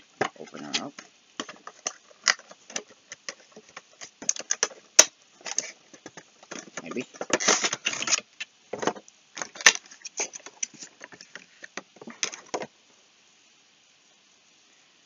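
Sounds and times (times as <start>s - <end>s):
packaging rustling and crinkling: 0.0s - 12.7s.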